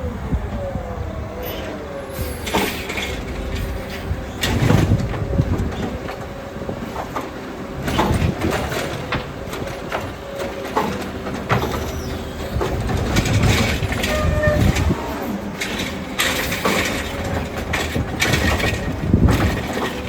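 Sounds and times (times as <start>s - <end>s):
garbage truck engine: 0.0s - 20.0s
metal clanks and knocks: 2.5s - 6.3s, 6.9s - 20.0s.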